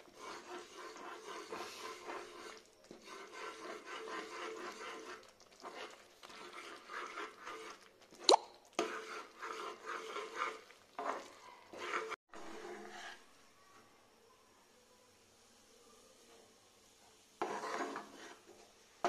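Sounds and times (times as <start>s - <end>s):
spatula scraping mash in pan: 0.0s - 13.5s, 17.1s - 19.0s.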